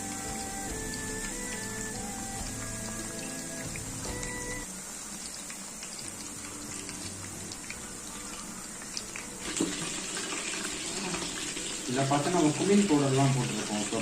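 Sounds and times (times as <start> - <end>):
chicken frying in hot oil: 0.0 - 14.0.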